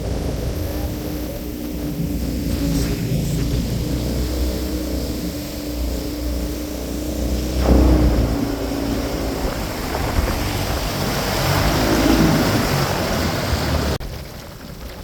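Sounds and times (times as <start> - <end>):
boat motor running: 0.0 - 14.0
quiet rushing noise: 0.0 - 14.0
water noise: 0.0 - 15.0
wind buffeting microphone: 0.0 - 15.0.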